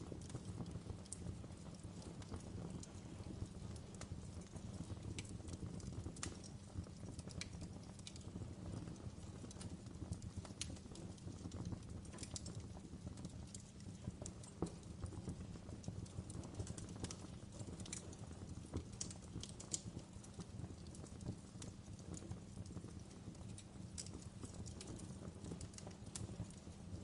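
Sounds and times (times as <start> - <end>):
fireplace crackling: 0.0 - 27.0.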